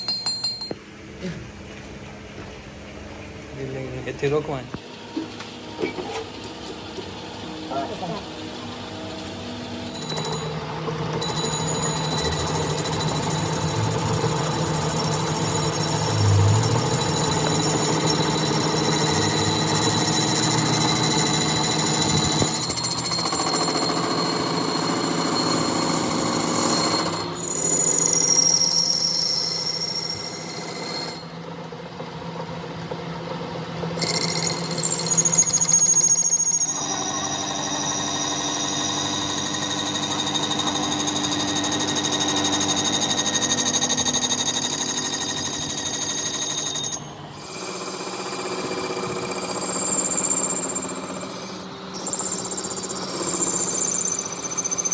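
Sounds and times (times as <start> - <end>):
machinery whining and rattling: 5.0 - 54.9.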